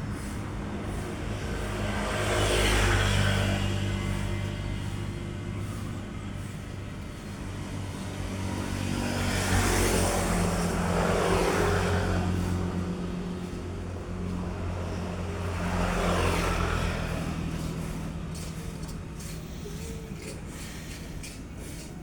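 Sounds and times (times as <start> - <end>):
traffic engine hum: 0.0 - 22.0
vehicle passing by: 0.0 - 22.0.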